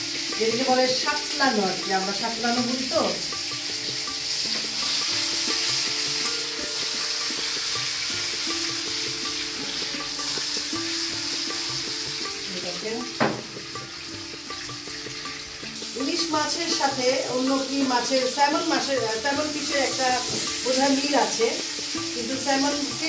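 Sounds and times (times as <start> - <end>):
fish sizzling in hot oil: 0.0 - 23.0
pan knocking on burner: 0.2 - 23.0.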